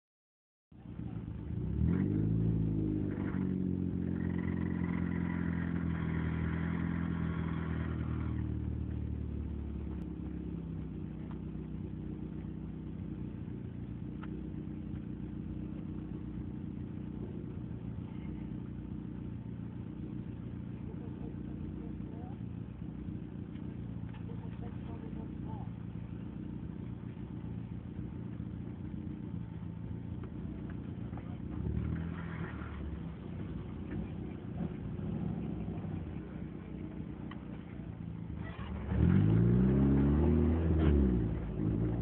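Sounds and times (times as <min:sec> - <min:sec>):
car engine revving and idling: 0:00.7 - 0:42.0.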